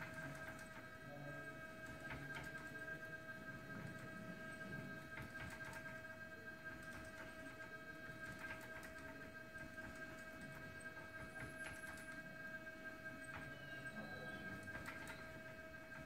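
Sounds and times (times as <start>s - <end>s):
faint electric motor whine: 0.0s - 16.0s.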